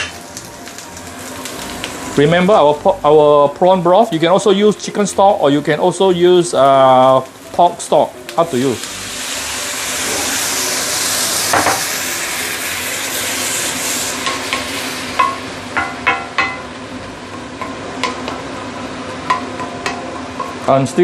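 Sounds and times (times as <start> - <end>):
broth sizzling in a hot wok: 0.0 - 21.0.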